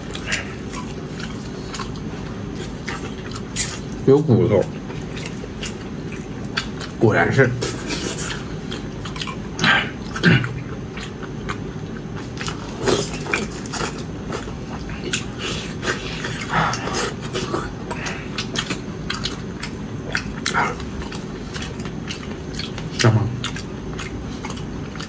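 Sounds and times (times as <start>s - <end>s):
low background hum: 0.0s - 25.0s
person chewing food: 0.0s - 25.0s.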